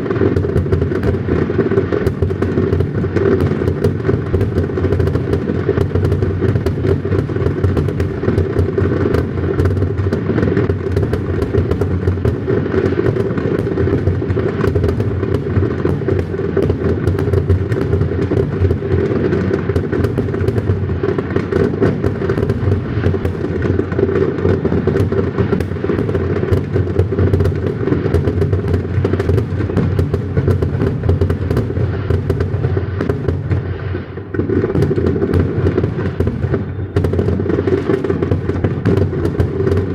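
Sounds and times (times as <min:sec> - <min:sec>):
fireworks bursts and booms: 0:00.0 - 0:39.9
fireworks crackling: 0:00.0 - 0:39.9.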